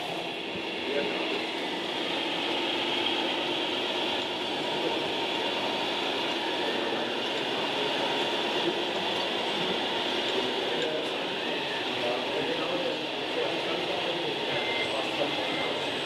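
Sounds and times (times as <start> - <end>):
model trucks mechanical drone: 0.0 - 16.0.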